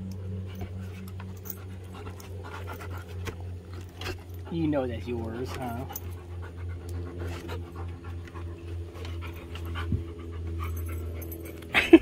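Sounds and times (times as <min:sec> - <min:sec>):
steady low hum: 0:00.0 - 0:12.0
dog panting: 0:00.2 - 0:11.7.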